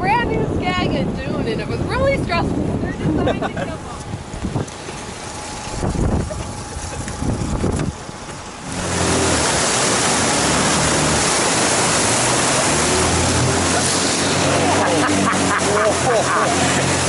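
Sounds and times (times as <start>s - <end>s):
outboard motor running: 0.0s - 17.0s
rushing water and wind: 0.0s - 17.0s.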